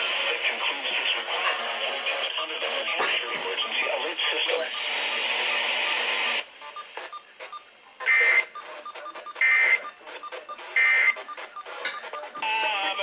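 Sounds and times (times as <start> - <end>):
music over radio: 0.0 - 13.0.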